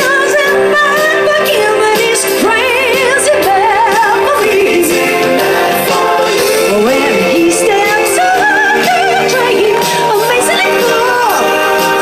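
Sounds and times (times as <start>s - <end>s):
keyboard accompaniment: 0.0s - 12.0s
woman singing with vibrato: 0.0s - 12.0s.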